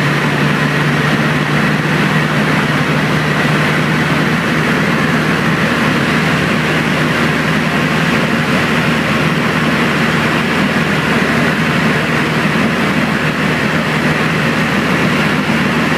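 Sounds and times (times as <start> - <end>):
aircraft engine drone: 0.0 - 15.9
rushing airflow: 0.0 - 15.9.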